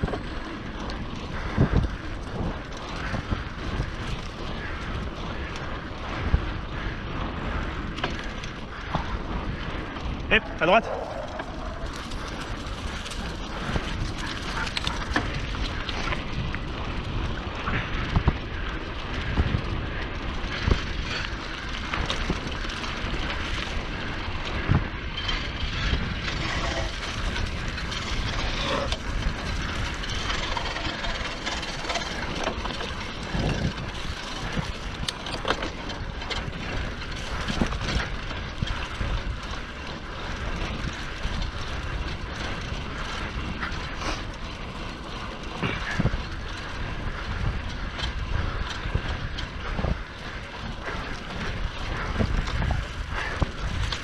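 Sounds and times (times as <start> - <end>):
bike knocks and rattles: 0.0 - 54.0
bike tyre rumble: 0.0 - 54.0
wind rush: 0.0 - 54.0.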